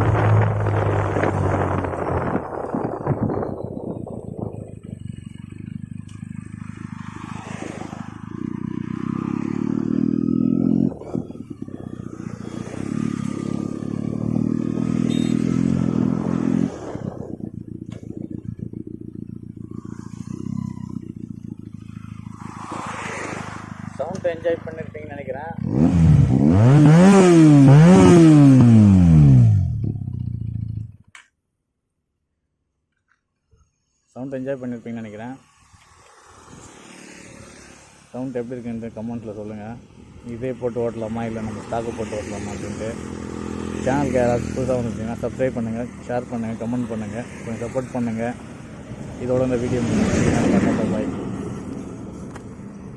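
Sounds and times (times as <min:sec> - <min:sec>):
motorcycle engine running: 0:00.0 - 0:31.1, 0:38.8 - 0:52.9.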